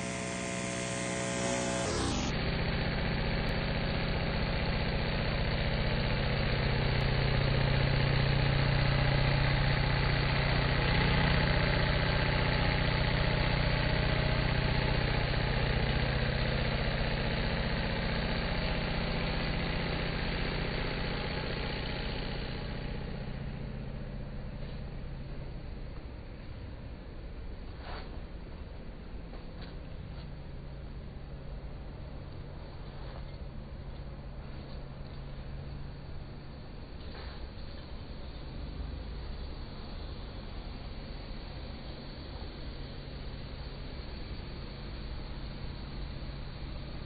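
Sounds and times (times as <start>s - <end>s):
engine humming: 0.0s - 47.0s.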